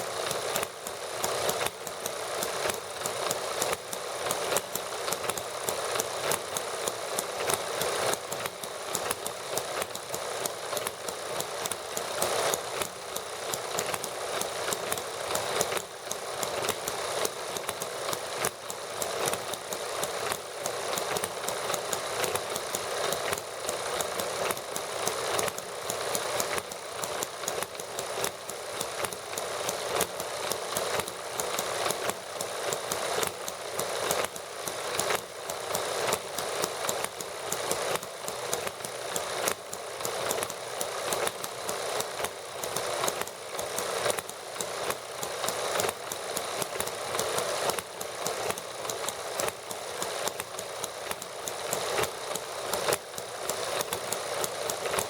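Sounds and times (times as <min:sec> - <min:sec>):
small gasoline engines running: 0:00.0 - 0:55.0.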